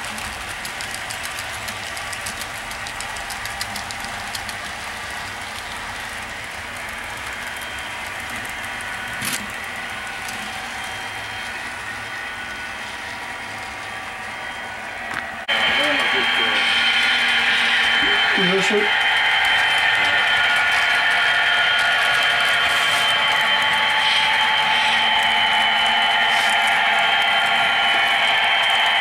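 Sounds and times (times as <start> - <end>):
model train wheels on rails: 0.0 - 29.0.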